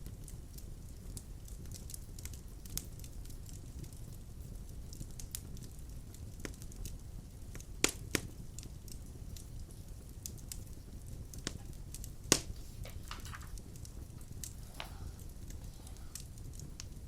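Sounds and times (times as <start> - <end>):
fire crackling and popping: 0.0 - 17.0
low rumble of fire: 0.0 - 17.0.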